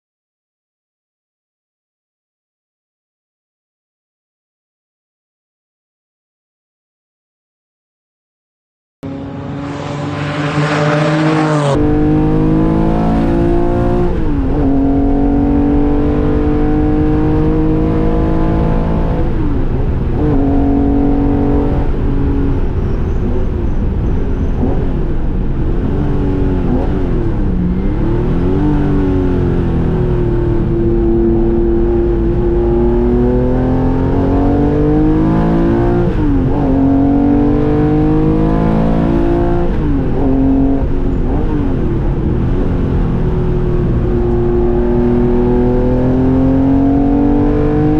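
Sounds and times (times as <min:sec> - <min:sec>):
race car engine revving: 0:09.0 - 0:47.9.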